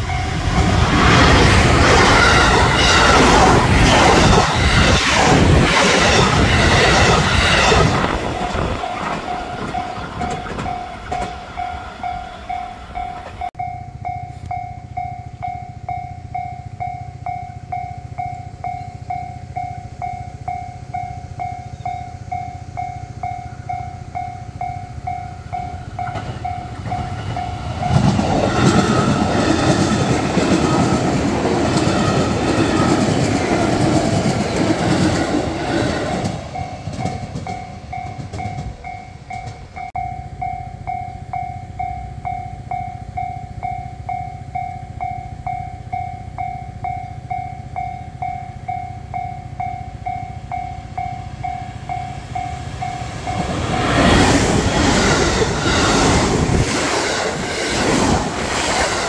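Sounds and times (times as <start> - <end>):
electronic crossing warning bell: 0.0 - 1.4, 6.2 - 56.1
train running loudly: 0.0 - 59.0.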